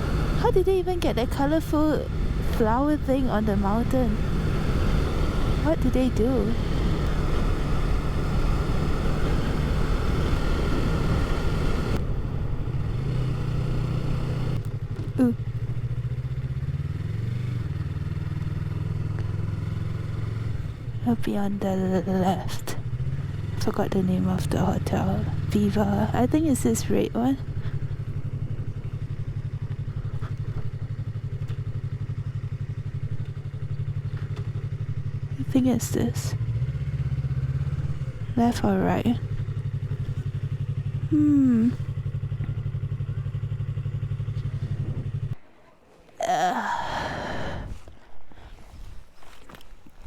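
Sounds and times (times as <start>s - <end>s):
motorcycle engine running: 0.0s - 45.5s.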